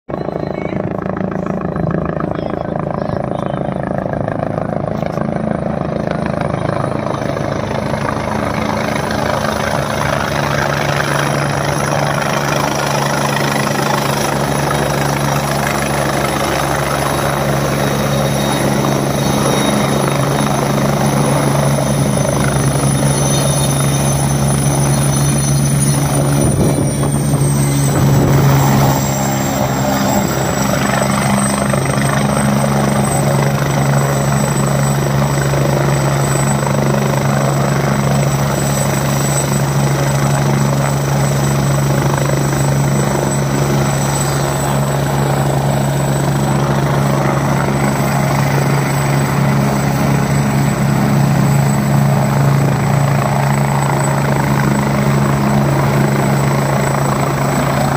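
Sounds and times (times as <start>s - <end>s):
helicopter rotor and turbine: 0.1s - 57.9s
high turbine whine: 0.1s - 57.9s.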